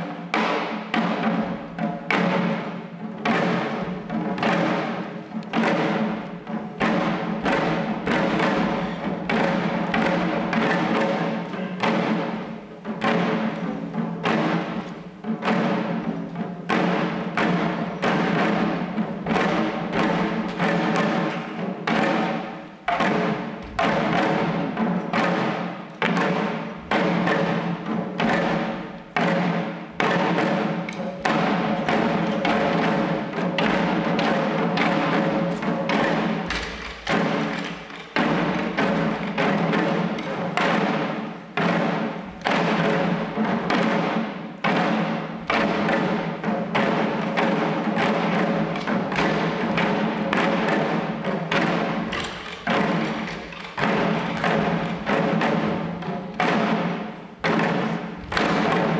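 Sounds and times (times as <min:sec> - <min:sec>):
small drums beating: 0:00.0 - 0:58.9.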